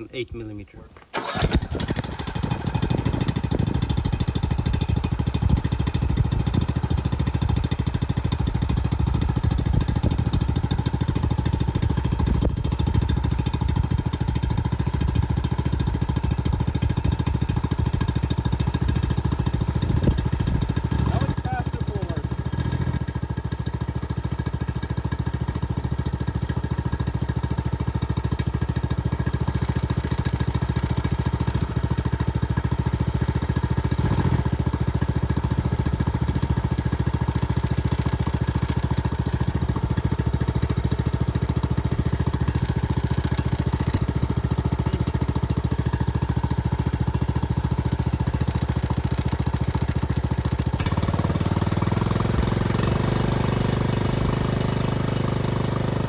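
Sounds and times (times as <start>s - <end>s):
ride-on mower engine running: 1.1s - 56.0s.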